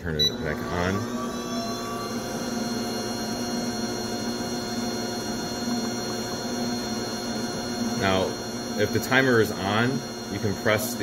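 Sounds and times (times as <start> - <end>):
mixer motor humming with whine: 0.0 - 11.0.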